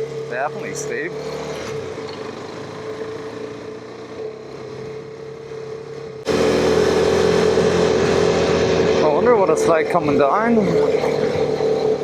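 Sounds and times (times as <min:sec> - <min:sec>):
motorcycle engine under load: 0:00.0 - 0:12.0.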